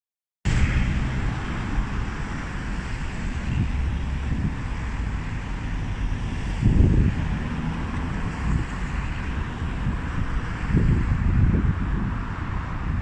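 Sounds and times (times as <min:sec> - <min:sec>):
distant traffic hum: 0:00.5 - 0:13.0
wind buffeting microphone: 0:00.5 - 0:13.0.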